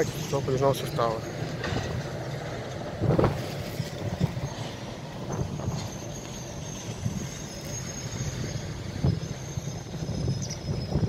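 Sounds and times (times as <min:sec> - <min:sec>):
high wheel squeal: 0:00.0 - 0:02.7, 0:03.4 - 0:11.0
train coaches rumbling: 0:00.0 - 0:11.0.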